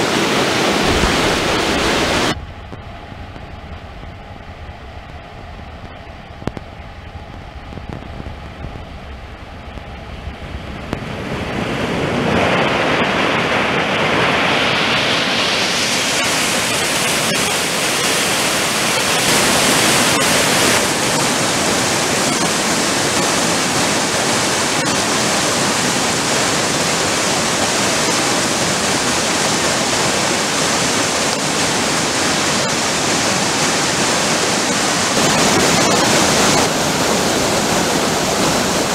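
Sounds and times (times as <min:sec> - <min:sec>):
floodwater rushing: 0:00.0 - 0:06.5, 0:10.0 - 0:38.9.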